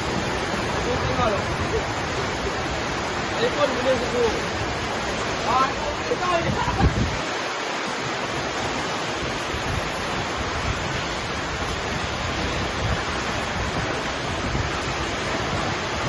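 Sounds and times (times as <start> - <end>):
heavy rain downpour: 0.0 - 16.0
wind: 0.0 - 16.0.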